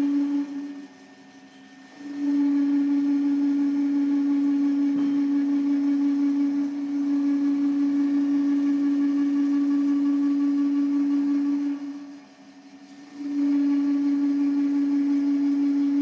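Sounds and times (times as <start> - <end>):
milling machine hum: 0.0 - 16.0.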